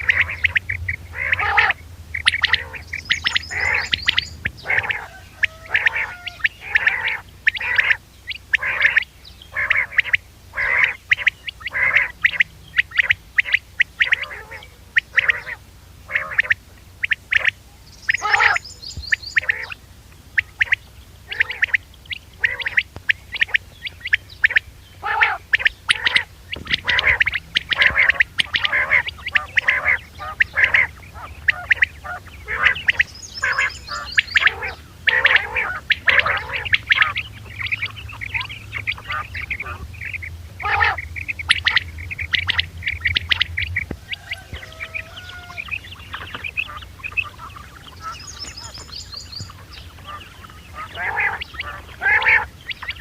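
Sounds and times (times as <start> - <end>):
higher-pitched quail call: 0.0 - 19.8, 20.4 - 53.0
quail calling: 0.0 - 53.0.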